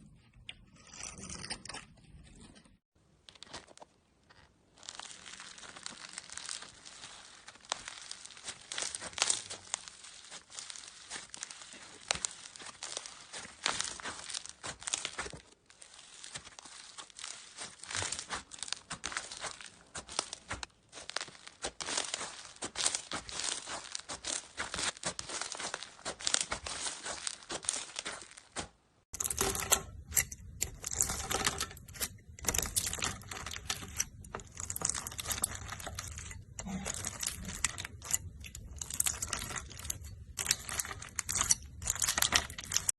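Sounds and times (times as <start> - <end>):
slime crackling and popping: 4.7 - 42.9.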